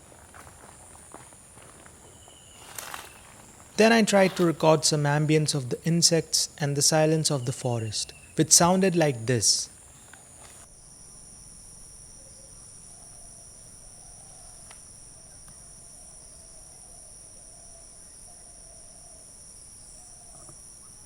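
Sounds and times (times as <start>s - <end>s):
high-pitched insect chorus: 0.0s - 21.0s.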